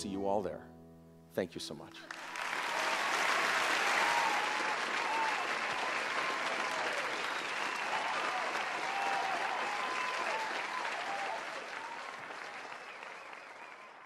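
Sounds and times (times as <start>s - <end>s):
audience applauding: 2.0s - 14.0s.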